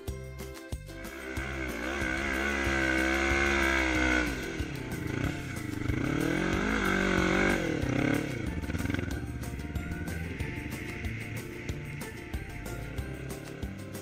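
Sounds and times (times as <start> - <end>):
quad engine revving: 0.9 - 14.0.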